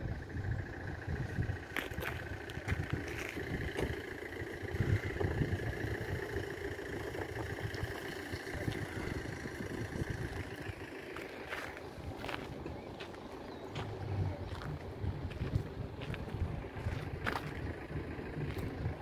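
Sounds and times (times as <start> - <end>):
wind buffeting on microphone: 0.0 - 10.9, 13.7 - 19.0
distant train hum with whine: 0.0 - 19.0.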